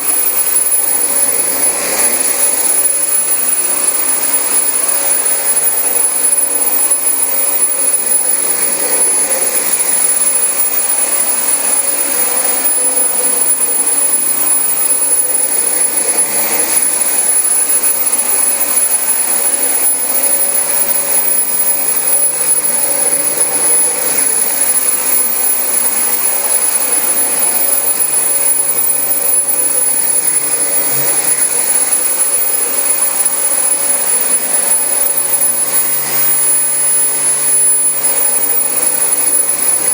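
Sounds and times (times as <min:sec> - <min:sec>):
motor whine: 0:00.0 - 0:39.9
vacuum cleaner running: 0:00.0 - 0:39.9.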